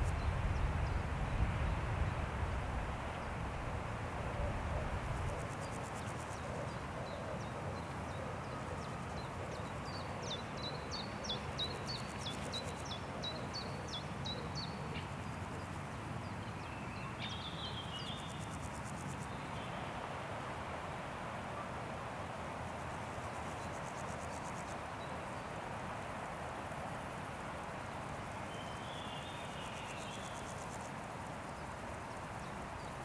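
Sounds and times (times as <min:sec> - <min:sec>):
wind rushing through trees: 0:00.0 - 0:33.0.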